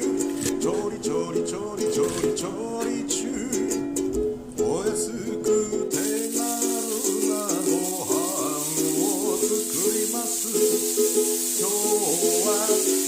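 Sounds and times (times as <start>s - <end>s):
person singing: 0.0s - 4.0s, 4.6s - 13.0s
ukulele playing chords: 0.0s - 13.0s.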